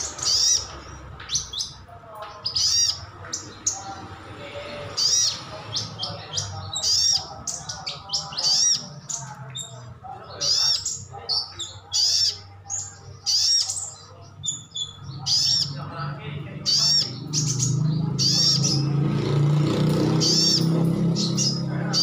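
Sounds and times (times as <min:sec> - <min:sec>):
sunbird chirping: 0:02.4 - 0:22.0.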